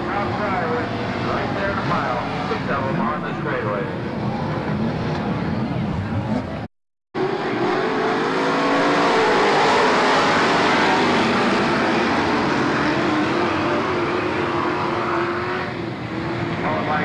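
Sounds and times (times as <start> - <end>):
stock car engines racing past: 0.0 - 17.0.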